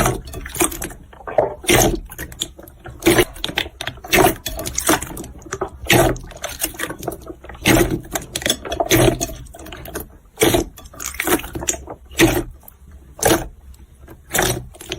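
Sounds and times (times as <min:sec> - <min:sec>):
slime squelching: 0:00.0 - 0:14.9.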